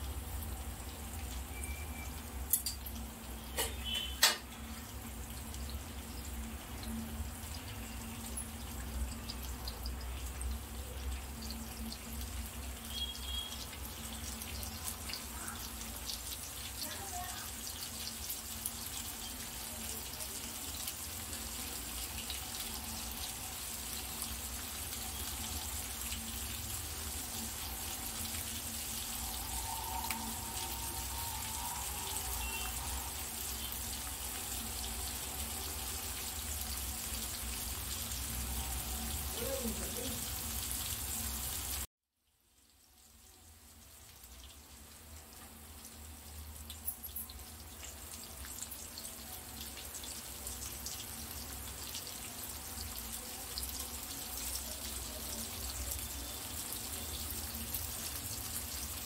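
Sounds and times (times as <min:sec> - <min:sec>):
fish sizzling in oil: 0:00.0 - 0:59.0.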